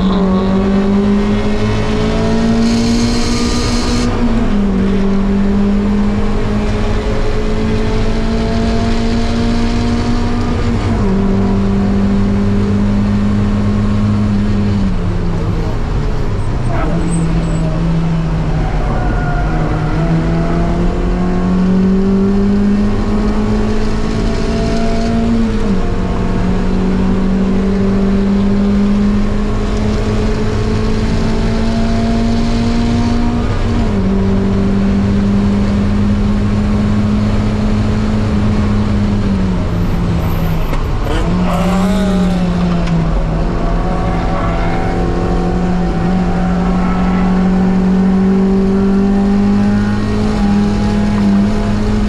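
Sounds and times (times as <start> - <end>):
race car engine revving: 0.0 - 52.0.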